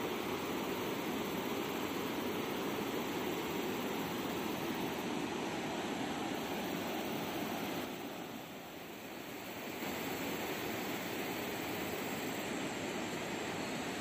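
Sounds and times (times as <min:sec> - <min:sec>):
steady rushing outdoor noise: 0:00.0 - 0:14.0.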